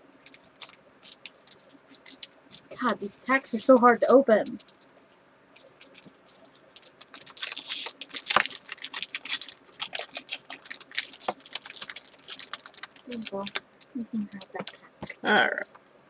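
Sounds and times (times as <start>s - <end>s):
foil wrapper crinkling: 0.0s - 15.4s.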